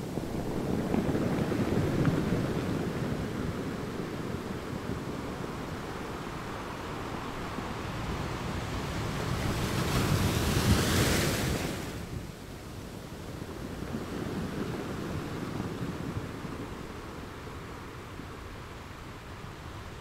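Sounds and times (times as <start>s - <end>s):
ocean waves breaking on beach: 0.0s - 20.0s.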